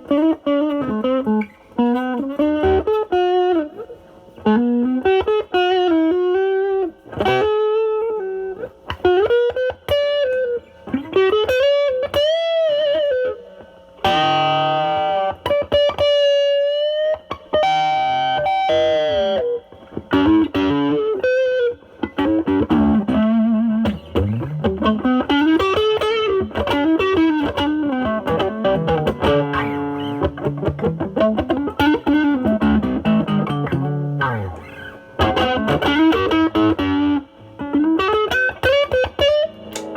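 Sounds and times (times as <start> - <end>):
overdriven electric guitar blues lead: 0.0 - 39.9.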